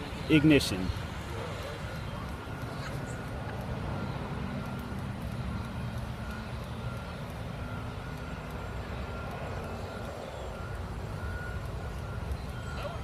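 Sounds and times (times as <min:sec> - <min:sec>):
engine idling: 0:00.0 - 0:13.0
thin steady whine: 0:00.0 - 0:13.0.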